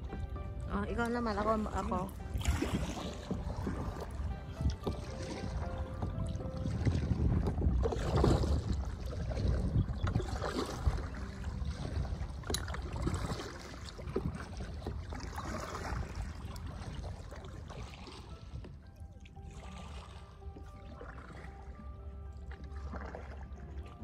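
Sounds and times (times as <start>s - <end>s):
paddle splashing in water: 0.0s - 24.0s.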